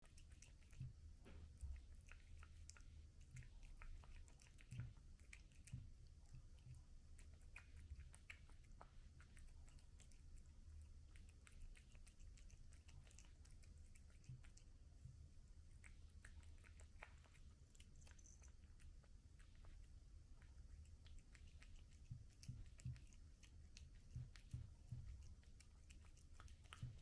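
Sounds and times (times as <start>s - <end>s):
cat chewing food: 0.0s - 27.0s.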